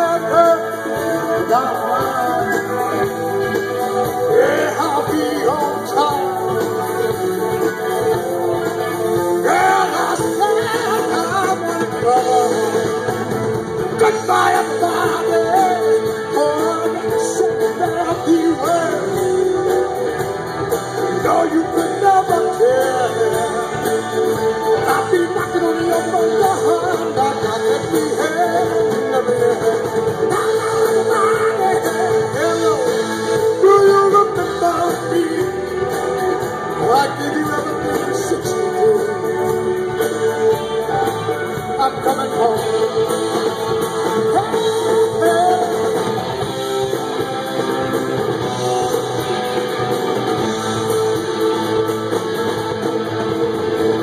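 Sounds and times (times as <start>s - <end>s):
man singing: 0.0s - 20.0s, 21.0s - 47.0s
drum kit: 0.0s - 54.0s
electric guitars: 0.0s - 54.0s.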